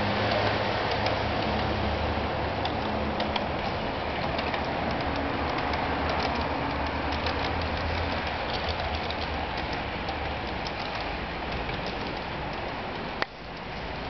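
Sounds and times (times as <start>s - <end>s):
light irregular clicks: 0.0s - 14.0s
model train wheels rumbling: 0.0s - 14.0s.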